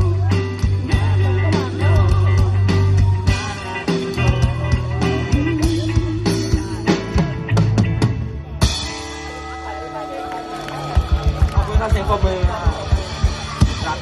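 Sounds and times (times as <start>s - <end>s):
live instrumental rock band: 0.0s - 14.0s.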